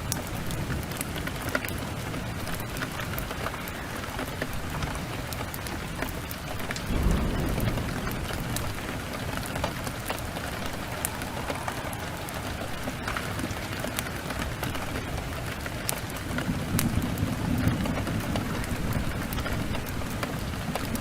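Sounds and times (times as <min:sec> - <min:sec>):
heavy rain: 0:00.0 - 0:21.0
thunder rumble: 0:00.0 - 0:21.0.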